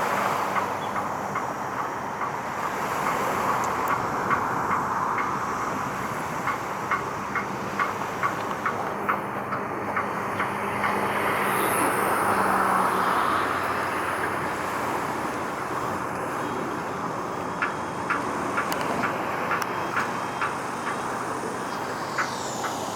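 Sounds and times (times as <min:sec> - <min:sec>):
vehicle traffic hiss and rumble: 0:00.0 - 0:22.9.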